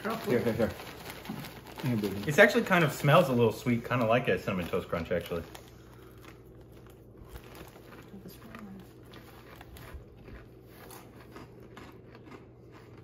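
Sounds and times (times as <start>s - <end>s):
people chewing crunchy snack: 0.0s - 13.0s.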